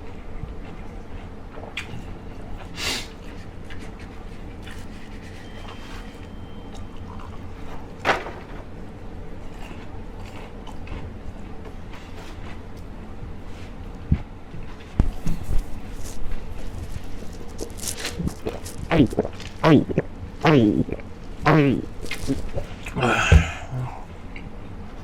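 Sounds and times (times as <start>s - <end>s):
faint chewing and mouth clicks: 0.0s - 8.0s, 9.4s - 12.9s, 13.6s - 23.0s.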